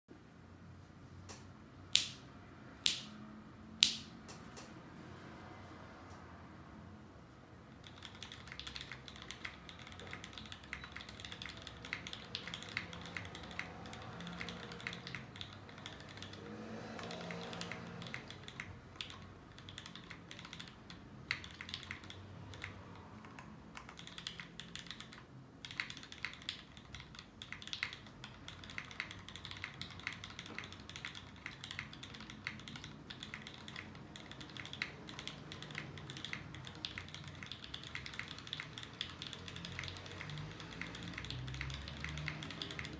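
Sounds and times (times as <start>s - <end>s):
mechanical keyboard typing: 7.7s - 42.9s.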